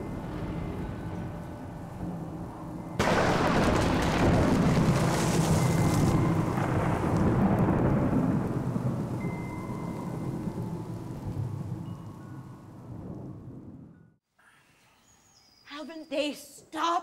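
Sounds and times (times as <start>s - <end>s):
rain: 0.0s - 13.8s
thunder rumbling: 0.0s - 14.2s.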